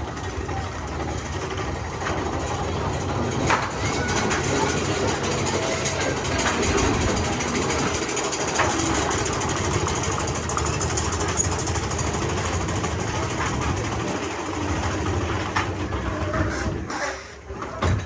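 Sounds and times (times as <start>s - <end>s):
roller coaster rattling on track: 0.0s - 18.0s.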